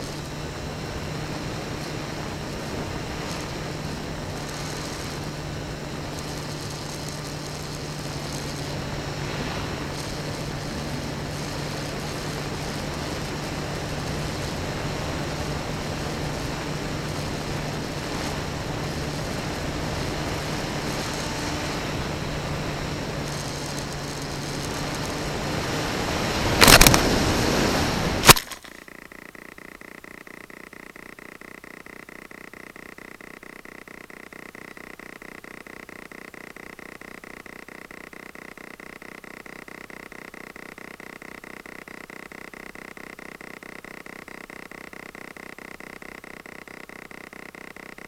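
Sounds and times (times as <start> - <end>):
model plane motor and propeller: 0.0 - 48.0
quiet hum: 0.0 - 48.0.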